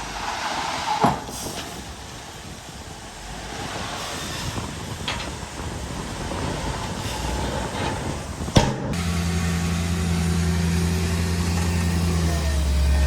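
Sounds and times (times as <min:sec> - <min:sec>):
heavy diesel engine droning: 0:00.0 - 0:13.0.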